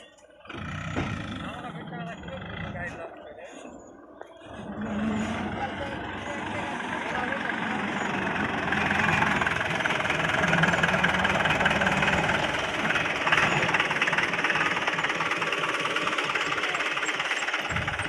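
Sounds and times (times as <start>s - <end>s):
diesel engine knocking clatter: 0.5s - 3.1s, 4.5s - 18.0s.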